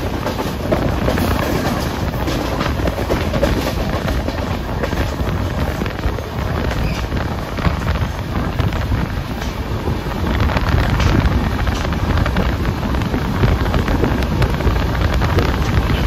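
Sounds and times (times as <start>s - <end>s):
train coaches rumbling on track: 0.0s - 16.0s
wind rushing over microphone: 0.0s - 16.0s.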